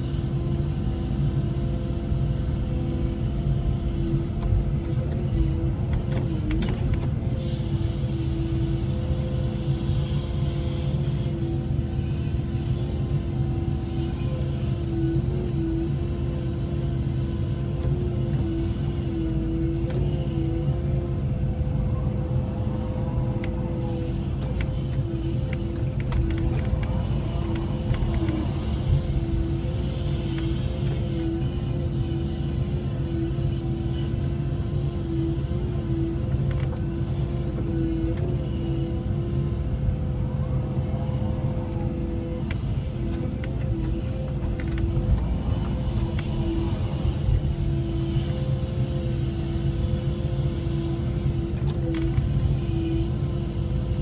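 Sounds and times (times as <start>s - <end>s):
excavator diesel rumble: 0.0s - 54.0s
hydraulic whine: 2.3s - 54.0s.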